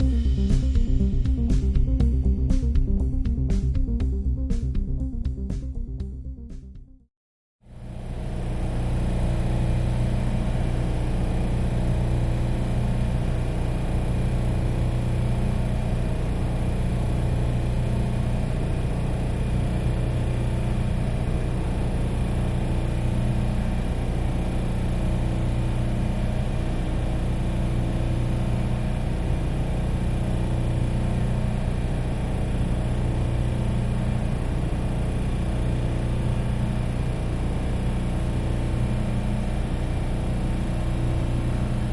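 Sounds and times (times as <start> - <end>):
air compressor humming: 7.7 - 41.9.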